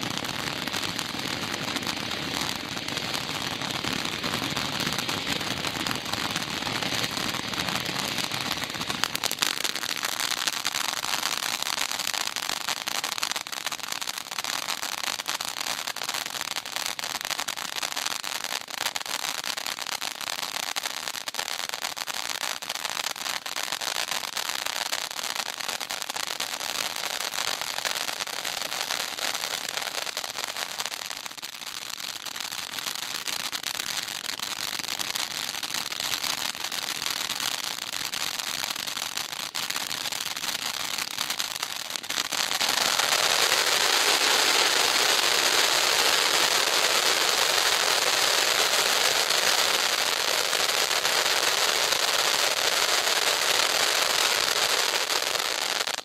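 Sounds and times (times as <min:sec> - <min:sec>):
firework fountain crackling hiss: 0:00.0 - 0:56.0.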